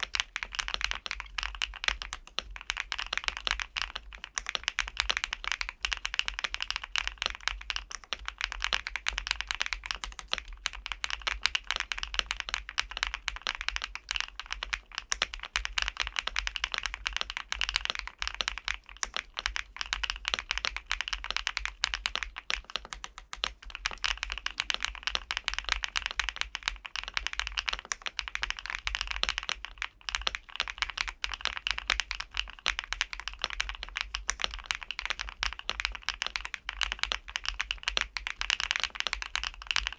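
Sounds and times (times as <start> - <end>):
fast keyboard typing clicks: 0.0 - 39.9.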